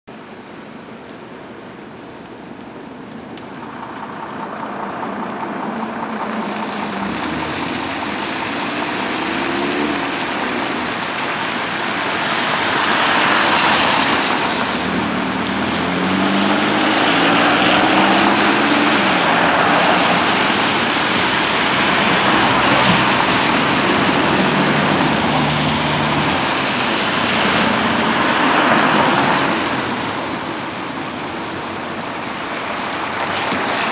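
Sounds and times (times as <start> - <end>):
car engines: 0.1 - 33.9
cars passing on wet street: 0.1 - 33.9.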